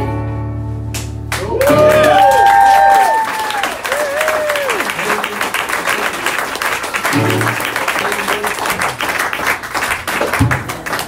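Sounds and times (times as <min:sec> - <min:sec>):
small audience applauding: 0:01.0 - 0:11.0.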